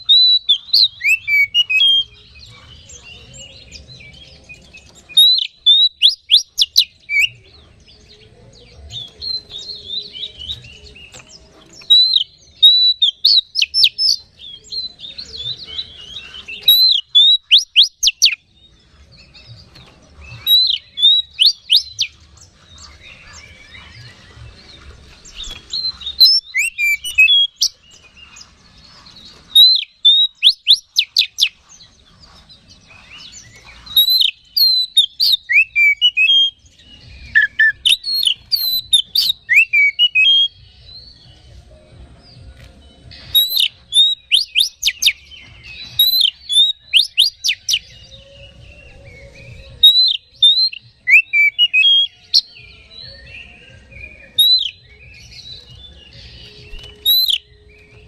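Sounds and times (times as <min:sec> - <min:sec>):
bird singing whistled trills: 0:00.0 - 0:58.0.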